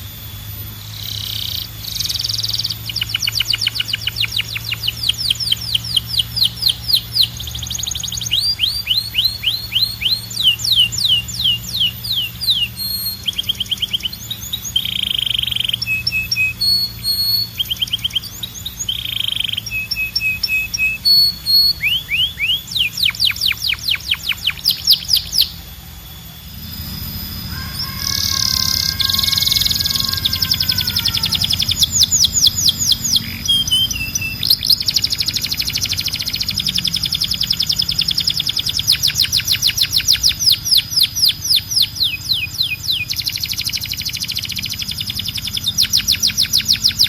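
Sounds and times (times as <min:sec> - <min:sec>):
canary singing: 0:00.0 - 0:47.0.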